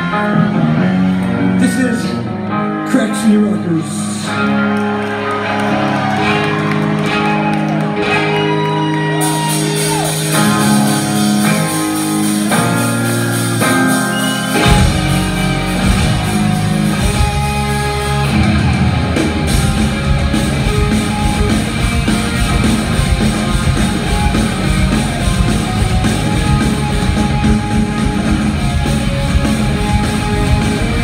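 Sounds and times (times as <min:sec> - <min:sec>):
bass guitar: 0:00.0 - 0:31.0
electric guitar chords: 0:00.0 - 0:31.0
drums: 0:03.2 - 0:31.0.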